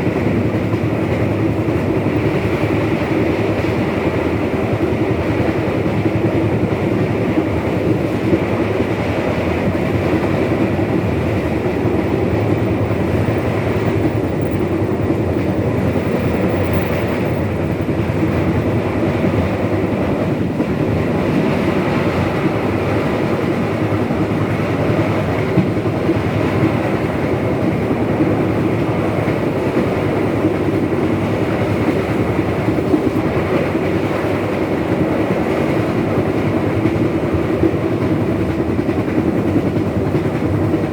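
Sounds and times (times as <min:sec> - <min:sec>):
train running on track: 0:00.0 - 0:40.9.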